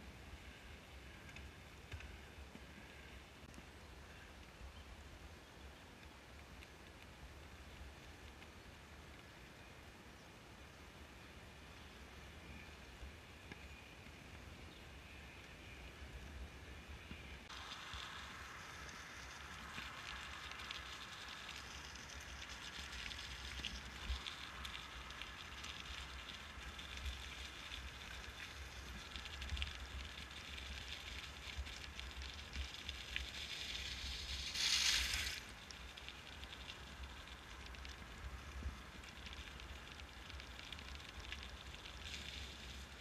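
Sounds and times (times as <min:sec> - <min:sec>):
bicycle tyres rolling on road: 0:00.0 - 0:43.0.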